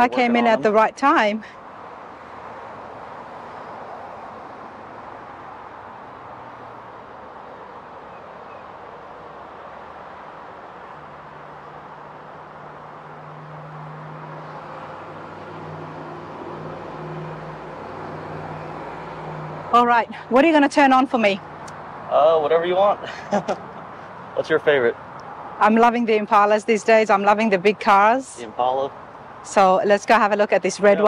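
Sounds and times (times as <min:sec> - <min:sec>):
motor vehicle noise: 0:00.0 - 0:31.0.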